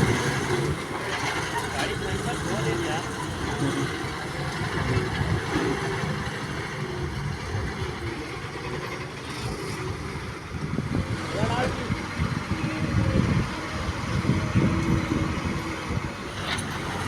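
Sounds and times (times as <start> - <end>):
heavy diesel engine idling: 0.0 - 17.0.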